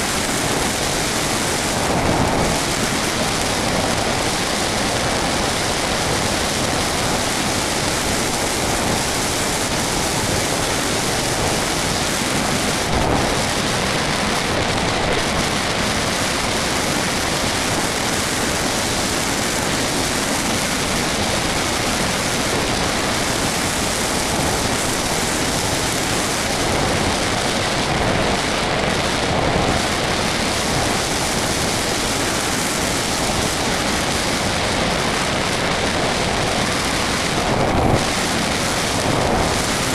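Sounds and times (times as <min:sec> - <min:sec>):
airflow rushing over microphone: 0:00.0 - 0:34.6, 0:35.2 - 0:39.9.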